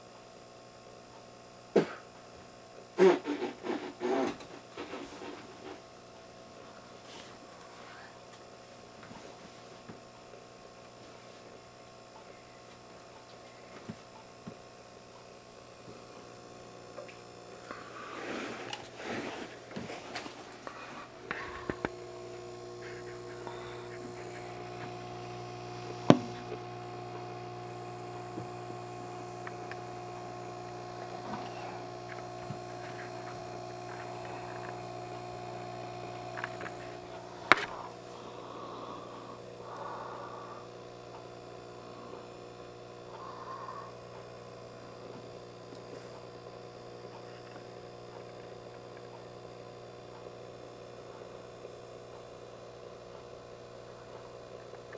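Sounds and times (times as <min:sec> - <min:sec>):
electrical mains hum: 0:00.0 - 0:54.9.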